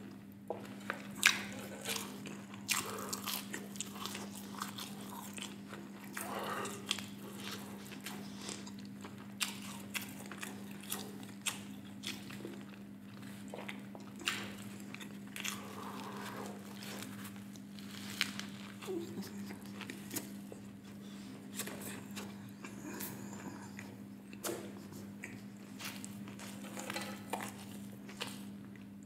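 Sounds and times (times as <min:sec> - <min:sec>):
steady low hum: 0:00.0 - 0:29.0
biting and crunching food: 0:00.5 - 0:20.9, 0:21.5 - 0:29.0.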